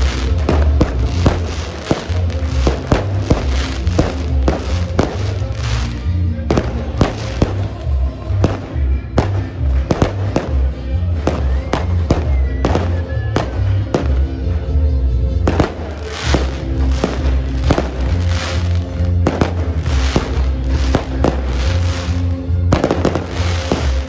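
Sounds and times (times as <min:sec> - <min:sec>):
fireworks banging: 0:00.0 - 0:14.5, 0:15.4 - 0:24.0
loud music with heavy bass: 0:00.0 - 0:24.0.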